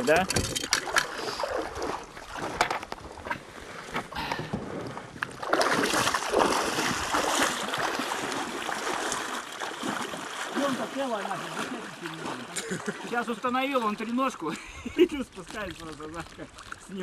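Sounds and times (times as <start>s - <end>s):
water rushing and splashing: 0.0s - 17.0s.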